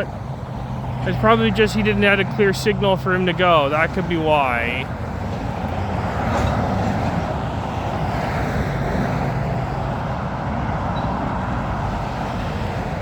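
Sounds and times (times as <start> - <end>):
freight train cars rolling: 0.0 - 13.0.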